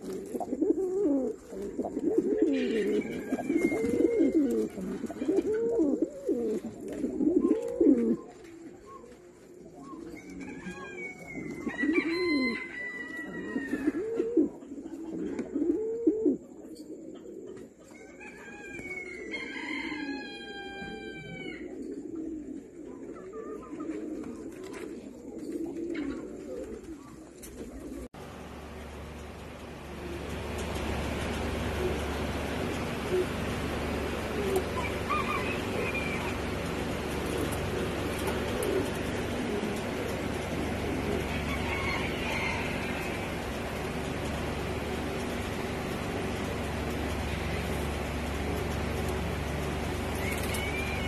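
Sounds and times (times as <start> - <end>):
pigeons cooing: 0.0 - 28.1, 29.2 - 51.0.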